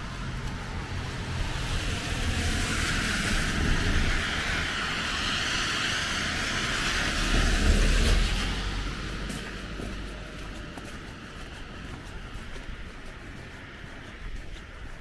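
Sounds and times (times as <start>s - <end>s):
tyres hissing on wet road: 0.0s - 12.4s, 13.4s - 13.9s
low rumble: 0.0s - 15.0s.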